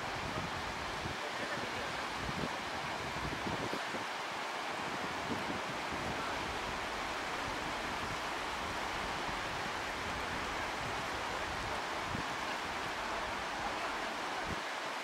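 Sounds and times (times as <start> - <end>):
wind rumbling on microphone: 0.0 - 14.6
surf washing on beach: 0.0 - 15.0.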